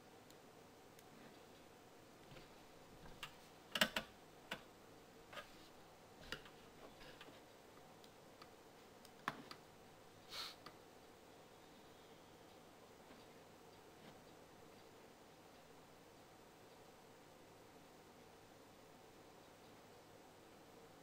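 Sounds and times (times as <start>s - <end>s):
room hiss: 0.0s - 21.0s.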